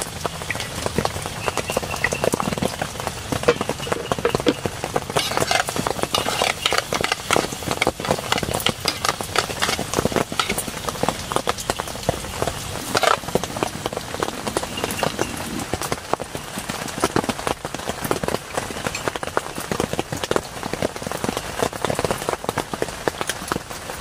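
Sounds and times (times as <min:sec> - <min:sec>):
heavy rain drops striking: 0:00.0 - 0:24.0.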